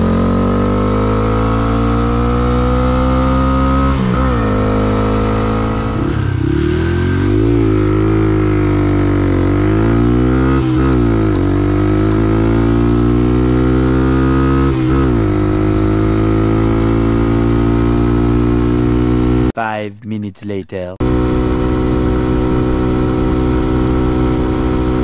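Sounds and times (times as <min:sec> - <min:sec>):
motorcycle engine revving: 0:00.0 - 0:19.5, 0:21.0 - 0:25.0.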